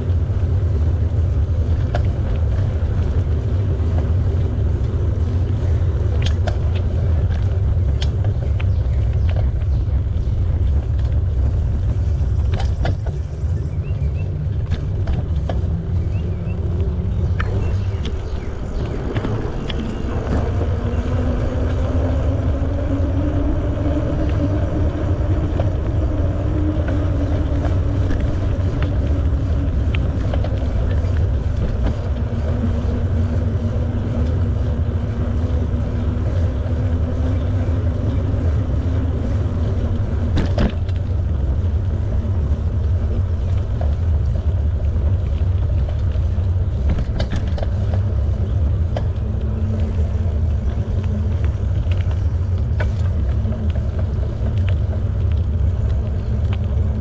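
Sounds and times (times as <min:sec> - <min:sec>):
rolling bicycle hum: 0:00.0 - 0:57.0
wind rumbling on microphone: 0:00.0 - 0:57.0.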